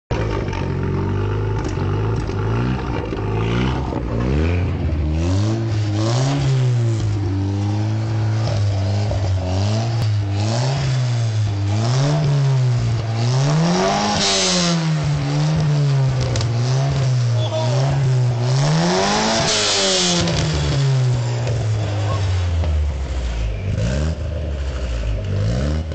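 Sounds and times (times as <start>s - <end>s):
car engine revving: 0.1s - 25.9s.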